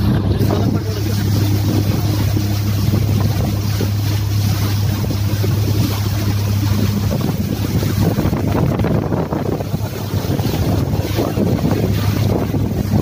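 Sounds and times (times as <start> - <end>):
motorboat engine running: 0.0 - 13.0
water rushing: 0.0 - 13.0
wind rushing: 0.0 - 13.0.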